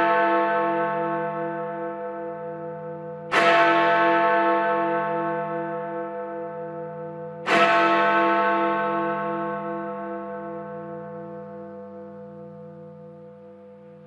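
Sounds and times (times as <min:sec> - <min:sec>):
church bell tolling: 0:00.0 - 0:14.0.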